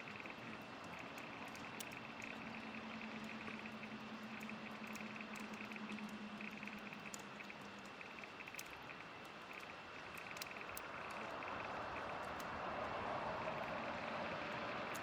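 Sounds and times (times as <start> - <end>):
campfire crackling: 0.4 - 15.0.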